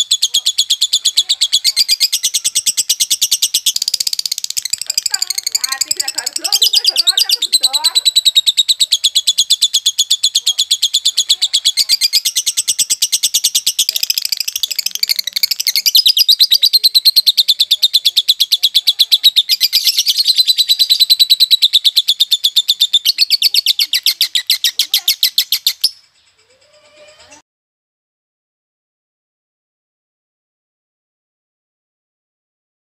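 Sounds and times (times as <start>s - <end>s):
lovebird chirping rapidly: 0.0s - 27.4s.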